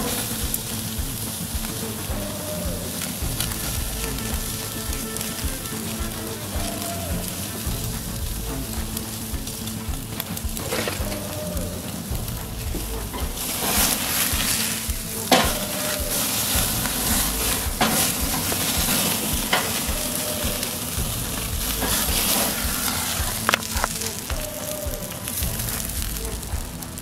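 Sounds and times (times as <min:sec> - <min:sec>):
fire popping and crackling: 0:00.0 - 0:27.0
meat sizzling on a grill: 0:00.0 - 0:27.0.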